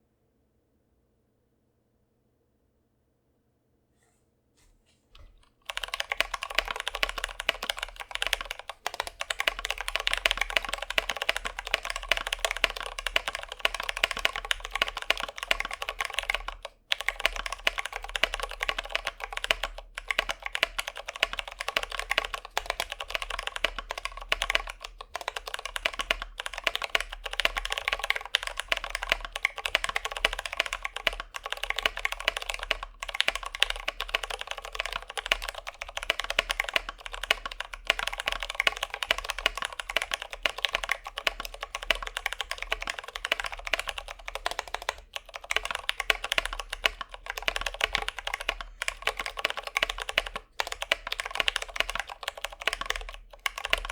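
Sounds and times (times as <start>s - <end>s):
mechanical keyboard typing: 5.2s - 53.9s.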